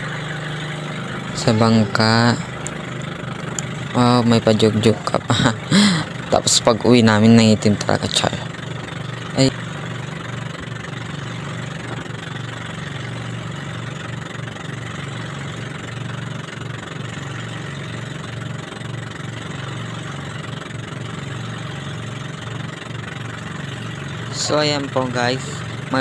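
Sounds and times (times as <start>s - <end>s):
boat engine running: 0.0s - 26.0s
wind: 0.0s - 26.0s.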